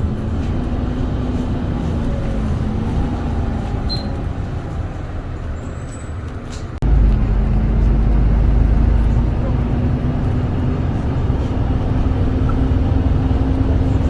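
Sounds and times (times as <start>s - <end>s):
bus engine drone: 0.0s - 14.0s
road rumble: 0.0s - 14.0s.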